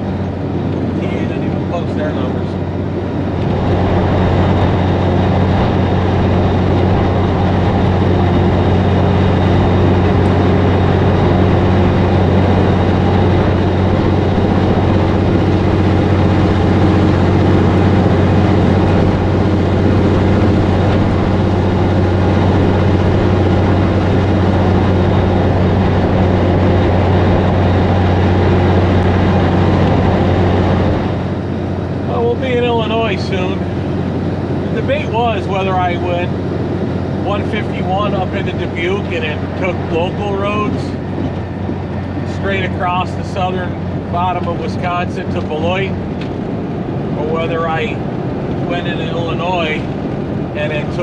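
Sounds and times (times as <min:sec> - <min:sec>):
diesel truck engine drone: 0:00.0 - 0:51.0
road noise: 0:00.0 - 0:51.0.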